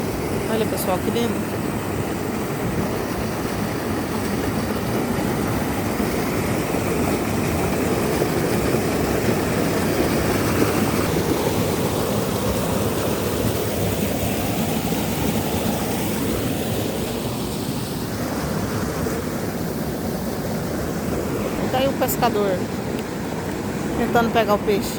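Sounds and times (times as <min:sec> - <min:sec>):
loud steady rushing noise: 0:00.0 - 0:24.9.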